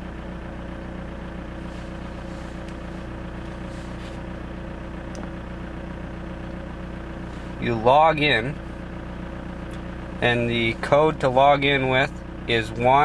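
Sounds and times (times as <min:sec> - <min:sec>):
diesel engine idling inside car: 0:00.0 - 0:13.0.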